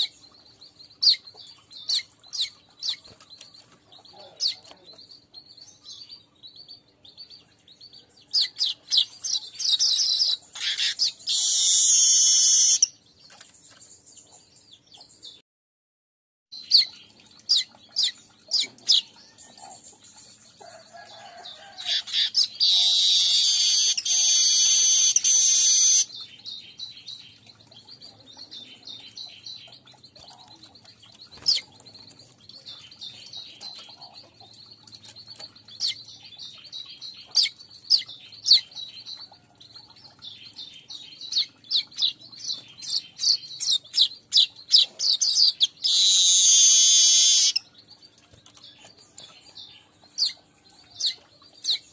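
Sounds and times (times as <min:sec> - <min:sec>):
bird chirps and ticks: 0:00.0 - 0:15.4, 0:16.5 - 0:51.9.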